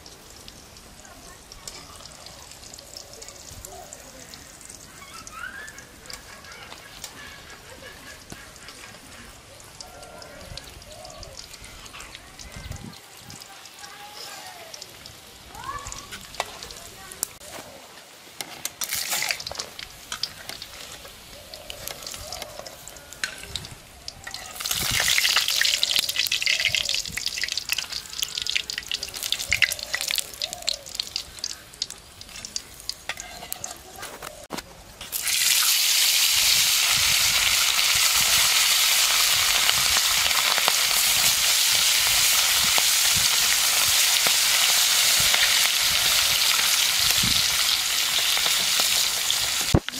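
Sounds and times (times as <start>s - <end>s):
dumplings frying in oil: 0.0s - 17.4s, 18.0s - 34.0s, 34.9s - 49.9s
fish sizzling in hot oil: 0.0s - 17.4s, 18.1s - 34.0s, 35.0s - 49.9s.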